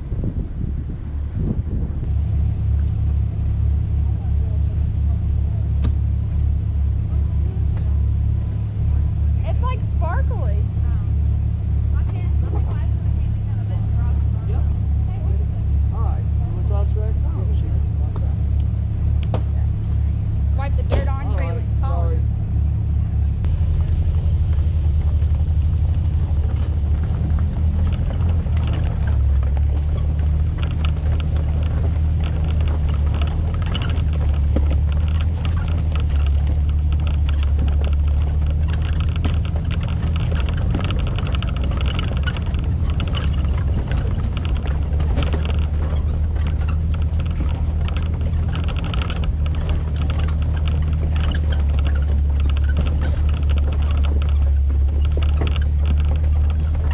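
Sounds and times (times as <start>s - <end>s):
engine rumbling: 0.0s - 56.9s
tyres crunching over gravel: 2.0s - 56.9s.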